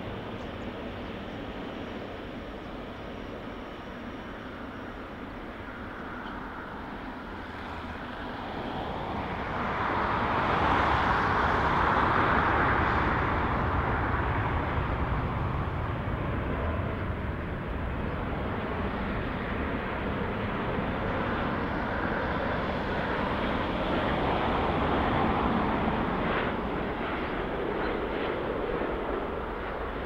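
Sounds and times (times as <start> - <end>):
jet engine rush: 0.0 - 30.0.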